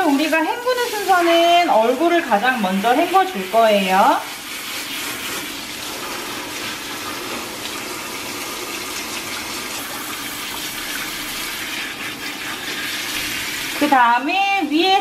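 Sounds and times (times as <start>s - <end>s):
shower head spraying water: 0.0s - 15.0s.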